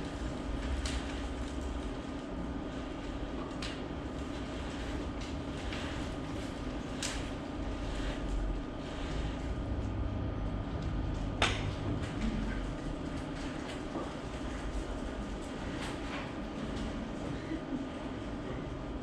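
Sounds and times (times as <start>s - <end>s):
low rumble and hum: 0.0s - 19.0s.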